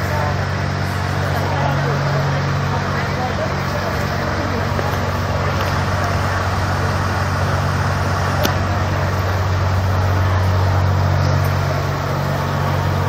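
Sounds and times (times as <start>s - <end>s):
diesel engines droning: 0.0s - 13.0s
rushing noise: 0.0s - 13.0s.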